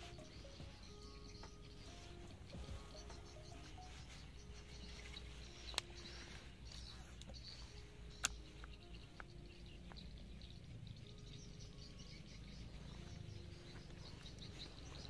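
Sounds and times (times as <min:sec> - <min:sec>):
faint outdoor ambience: 0:00.0 - 0:15.0
high-pitched chirping: 0:00.0 - 0:15.0.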